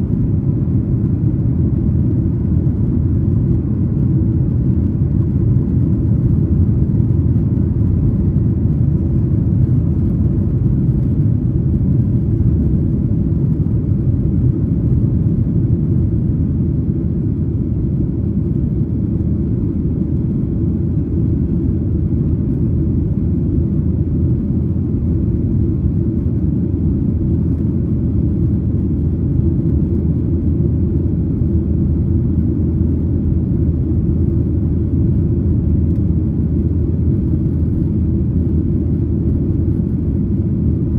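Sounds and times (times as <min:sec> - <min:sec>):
cabin airflow: 0:00.0 - 0:40.9
jet engine low rumble in cabin: 0:00.0 - 0:40.9.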